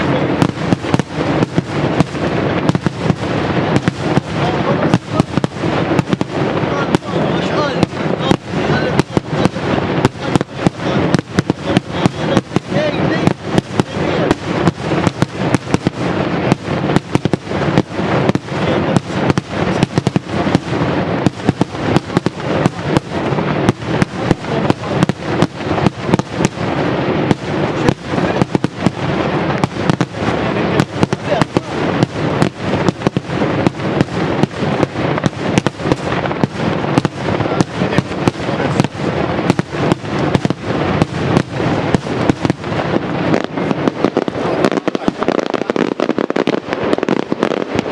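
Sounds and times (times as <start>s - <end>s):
fireworks bangs: 0.0s - 47.9s
fireworks crackling: 0.0s - 47.9s.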